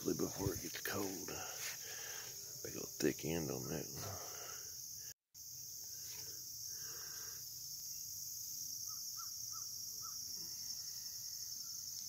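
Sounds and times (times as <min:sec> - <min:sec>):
crickets chorus: 0:00.0 - 0:12.0.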